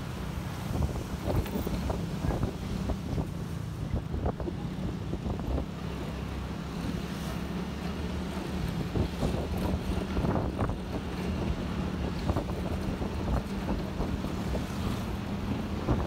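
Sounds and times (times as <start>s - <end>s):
motorbike engine humming: 0.0s - 16.0s
wind buffeting microphone: 0.2s - 16.0s.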